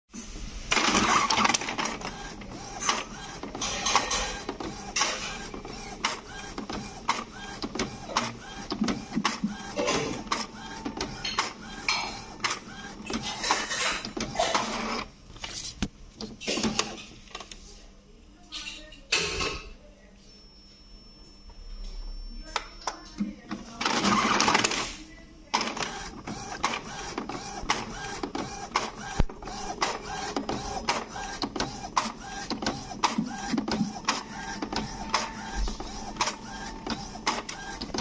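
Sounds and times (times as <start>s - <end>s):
printer carriage whirring: 0.4s - 17.8s, 22.4s - 38.0s
paper-feed mechanism clicking: 0.7s - 17.6s, 23.7s - 24.9s, 25.5s - 38.0s.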